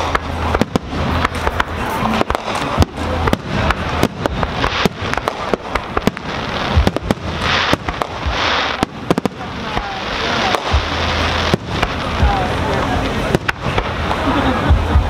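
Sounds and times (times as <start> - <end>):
continuous noisy background: 0.0 - 15.0
fireworks bangs: 0.0 - 15.0.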